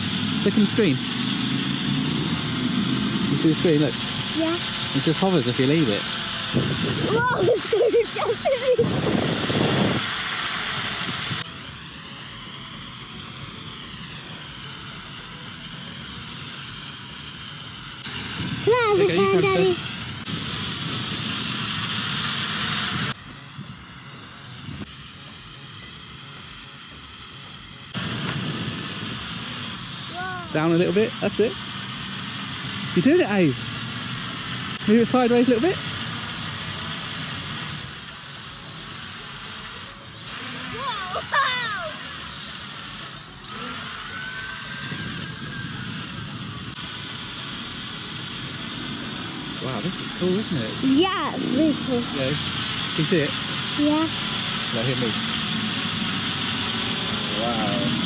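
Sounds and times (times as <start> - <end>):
toy drone propellers whining: 0.0 - 58.0.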